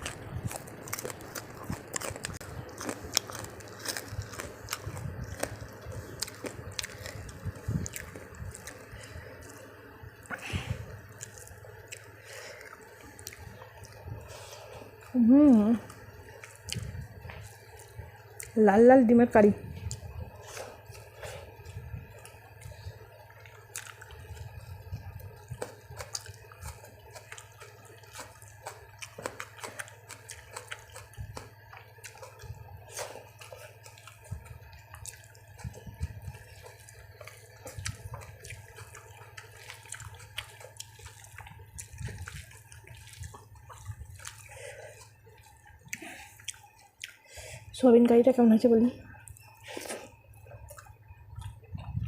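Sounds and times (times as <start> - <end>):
wet squishy chewing: 0.0 - 19.0, 19.6 - 48.2, 49.1 - 52.0
steady low hum: 0.0 - 52.0.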